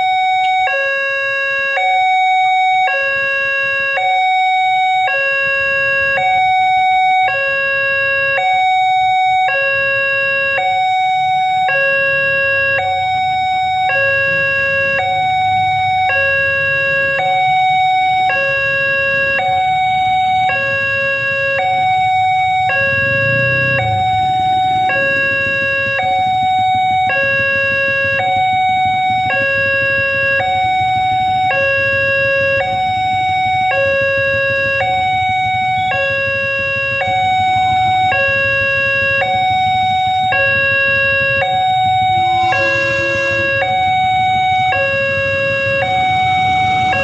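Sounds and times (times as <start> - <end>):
level crossing alarm two tones: 0.0 - 47.0.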